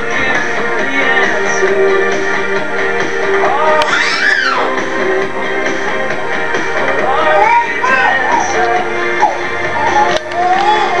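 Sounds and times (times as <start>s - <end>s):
music with melody: 0.0s - 11.0s.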